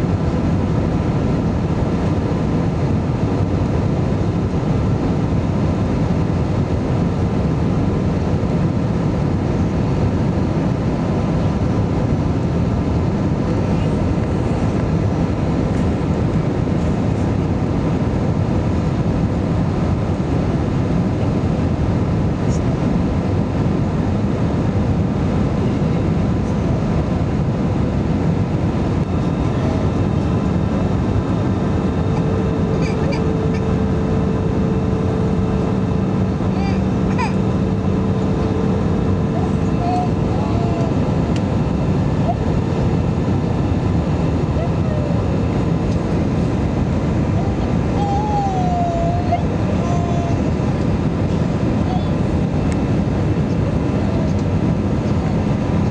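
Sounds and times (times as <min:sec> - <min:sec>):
airflow rushing in cabin: 0:00.0 - 0:55.9
engine hum: 0:00.0 - 0:55.9.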